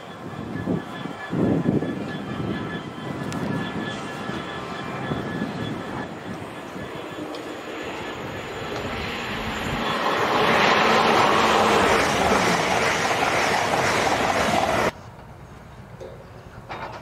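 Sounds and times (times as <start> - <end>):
high-speed train passing: 0.0 - 16.8.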